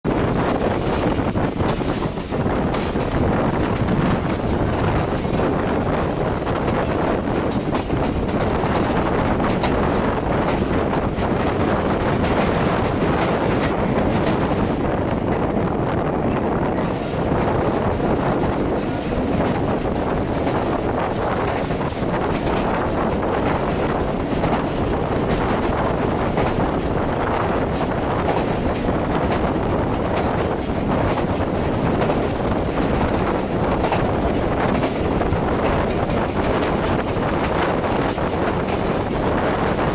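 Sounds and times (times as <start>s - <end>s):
train wheels rumbling on rails: 0.0s - 39.9s
wind buffeting microphone: 0.0s - 39.9s.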